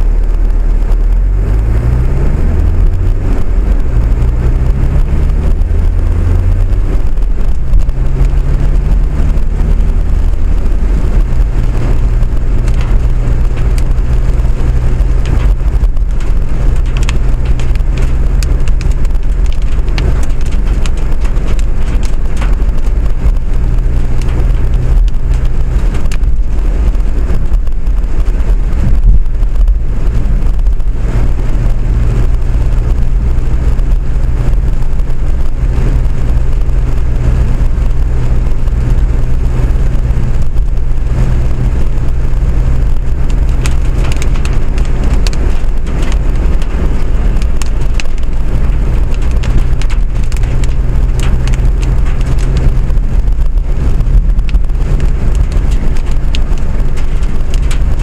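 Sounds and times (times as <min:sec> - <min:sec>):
vehicle running noise from inside: 0:00.0 - 0:58.0.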